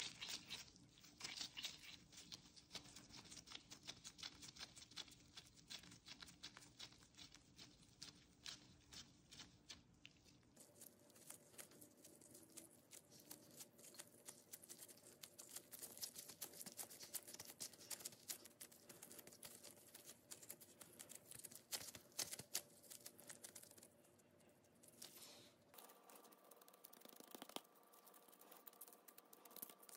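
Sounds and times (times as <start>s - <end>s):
gloved hands kneading dough: 0.0s - 29.9s.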